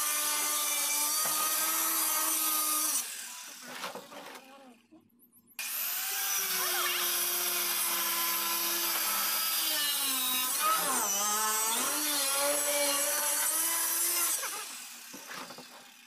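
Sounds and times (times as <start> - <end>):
electric saw cutting plastic: 0.0 - 4.1, 5.6 - 16.0.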